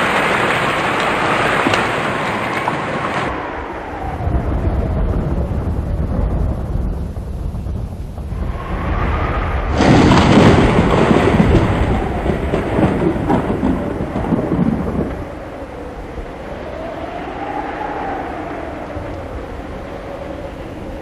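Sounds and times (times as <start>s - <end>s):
rain: 0.0s - 21.0s
thunder rumble: 0.0s - 21.0s
wind: 0.0s - 21.0s.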